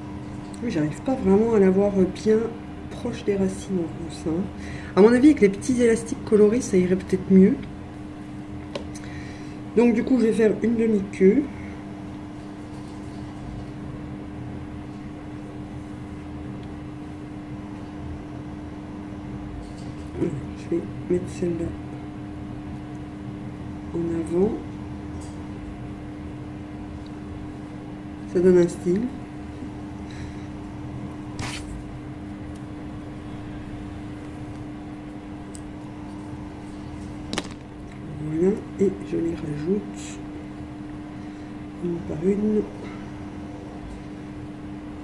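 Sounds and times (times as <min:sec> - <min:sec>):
low machine hum with tone: 0:00.0 - 0:45.0.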